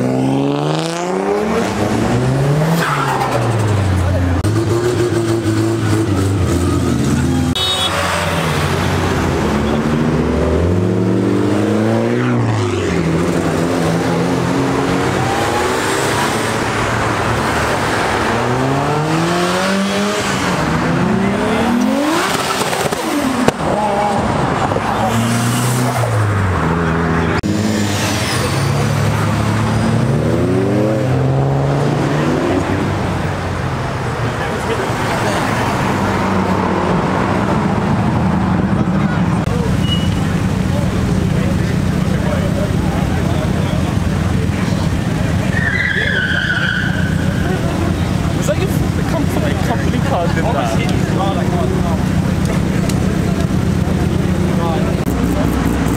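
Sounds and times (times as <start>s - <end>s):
cars driving past revving: 0.0s - 55.9s.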